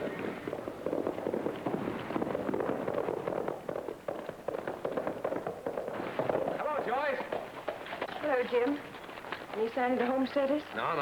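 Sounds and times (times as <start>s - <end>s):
horse hooves clattering: 0.0s - 11.0s.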